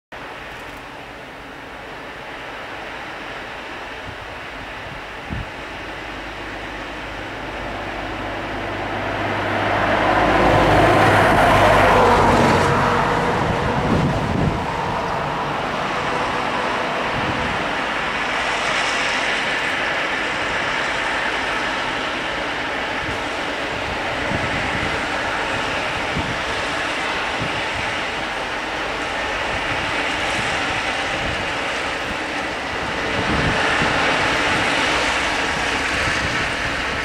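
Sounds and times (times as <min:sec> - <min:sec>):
diesel locomotives rumbling: 0:00.1 - 0:37.0.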